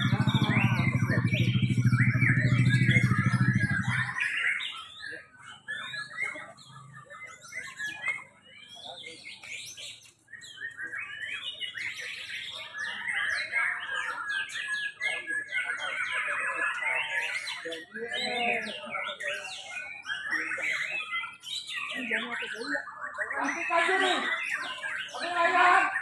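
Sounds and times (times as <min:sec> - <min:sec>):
birds singing in chorus: 0:00.0 - 0:26.0.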